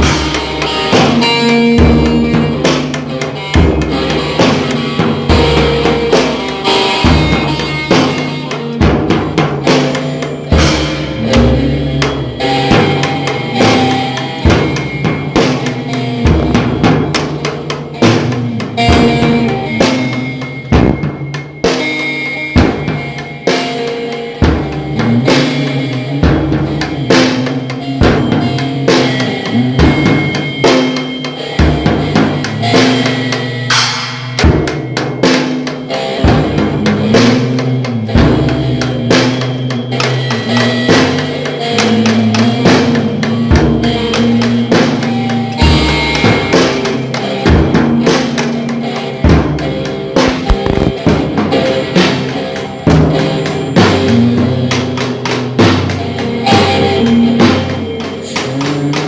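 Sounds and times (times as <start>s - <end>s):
rock drum beat: 0.0s - 59.0s
sustained guitar notes: 0.0s - 59.0s.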